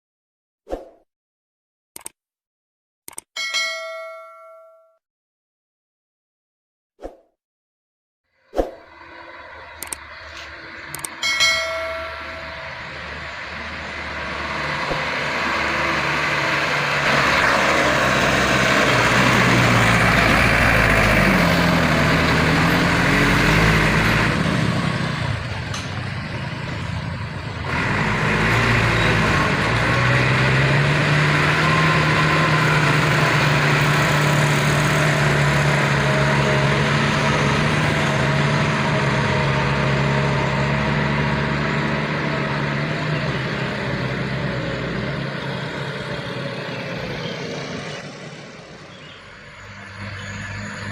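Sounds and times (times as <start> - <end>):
truck diesel engine under load: 8.8 - 50.9.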